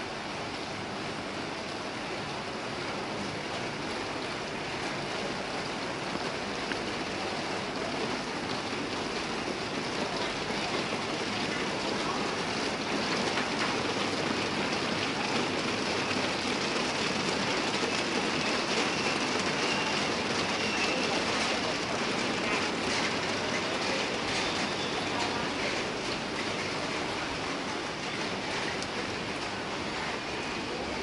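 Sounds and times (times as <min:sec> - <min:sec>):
rain falling on wet street: 0:00.0 - 0:31.0.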